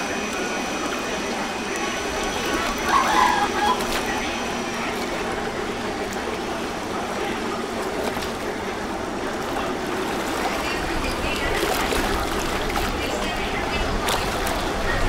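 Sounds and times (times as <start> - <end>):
boat engine running: 0.0 - 15.0
river water rushing along boat hull: 0.0 - 15.0.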